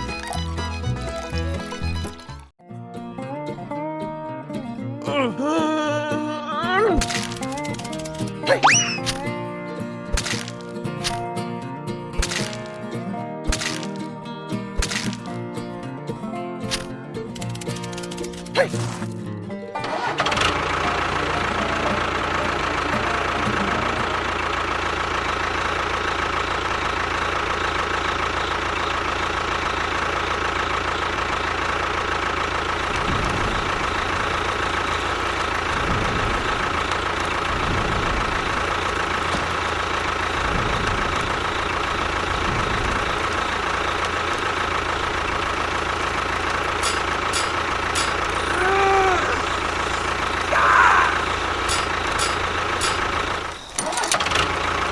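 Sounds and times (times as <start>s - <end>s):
engine idling: 0.0s - 2.5s, 7.0s - 16.0s, 16.6s - 54.9s.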